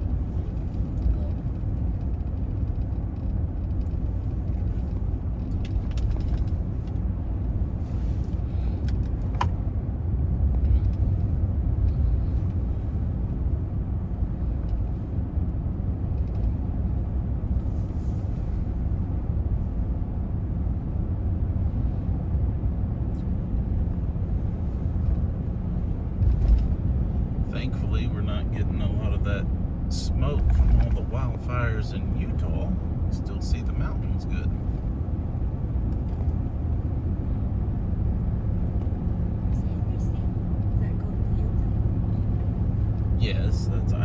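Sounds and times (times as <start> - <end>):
car cabin road rumble: 0.0 - 44.0.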